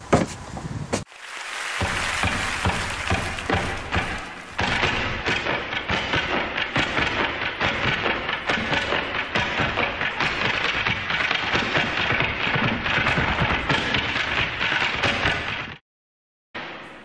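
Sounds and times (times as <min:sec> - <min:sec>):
tap dancing: 0:01.7 - 0:15.8.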